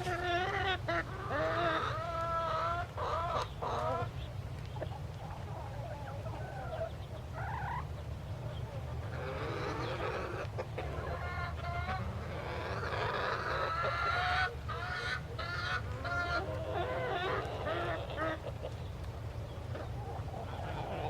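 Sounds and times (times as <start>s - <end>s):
farmyard fowl calling: 0.0s - 21.0s.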